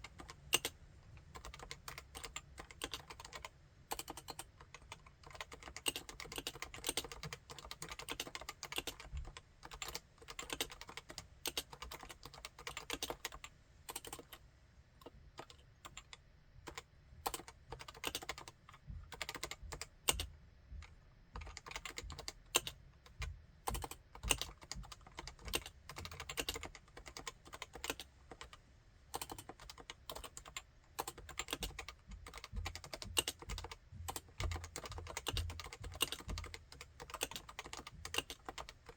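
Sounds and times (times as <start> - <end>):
keyboard typing: 0.0 - 14.4, 15.0 - 28.6, 29.2 - 38.9.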